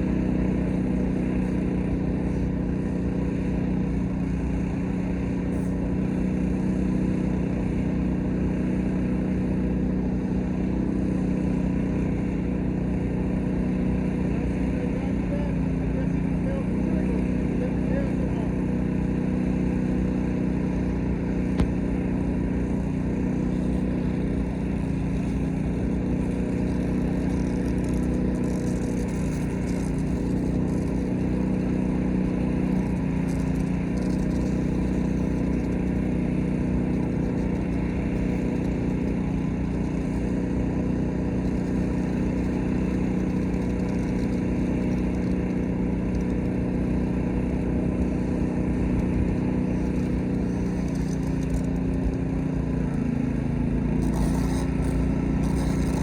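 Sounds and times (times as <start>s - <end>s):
small gasoline engine drone: 0.0s - 56.0s.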